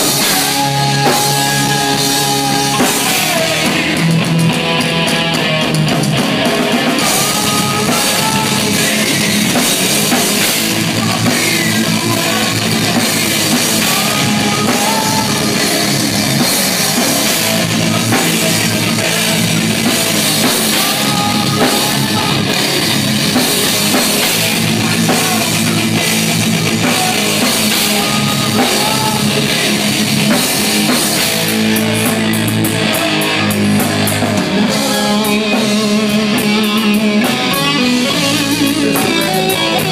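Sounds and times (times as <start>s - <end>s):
distorted electric guitars: 0.0s - 39.9s
drum kit with cymbals: 0.0s - 39.9s.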